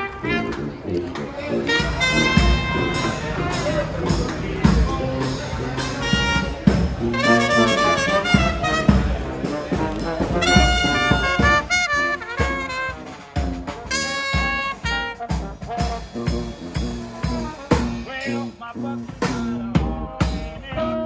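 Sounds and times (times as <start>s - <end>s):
trombone: 0.0s - 21.0s
trumpet: 0.0s - 21.0s
snare and bass drum beats: 0.3s - 18.5s, 19.1s - 21.0s.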